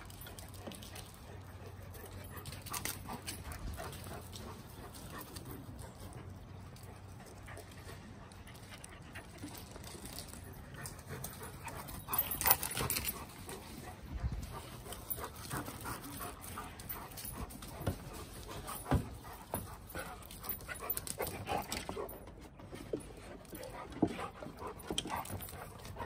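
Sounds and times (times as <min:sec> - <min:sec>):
dogs panting: 0:00.0 - 0:26.0.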